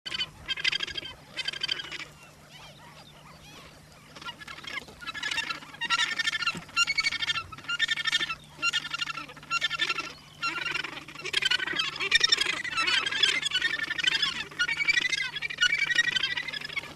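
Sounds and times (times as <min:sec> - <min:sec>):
gannets calling: 0:00.1 - 0:16.9.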